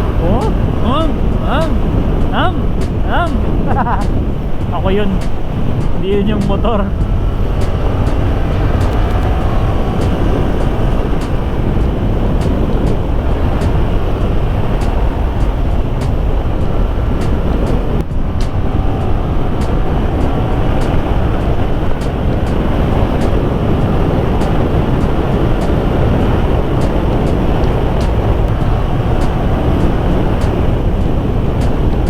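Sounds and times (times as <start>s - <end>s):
motorcycle engine running: 0.0s - 32.0s
wind rushing on microphone: 0.0s - 32.0s.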